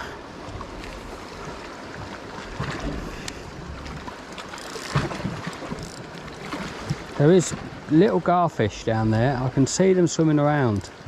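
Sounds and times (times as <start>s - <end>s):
sea water washing against rocks: 0.0s - 11.0s.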